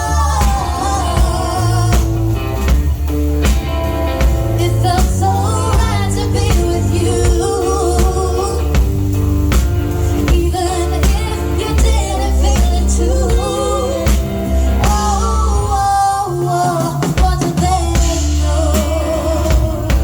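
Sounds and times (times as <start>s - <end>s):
drum beat: 0.0s - 15.3s, 16.7s - 20.0s
live band playing pop-rock: 0.0s - 20.0s.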